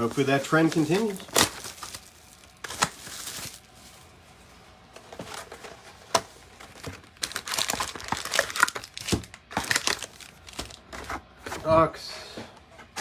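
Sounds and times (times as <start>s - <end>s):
plastic wrapping crinkling and tearing: 0.0s - 11.1s.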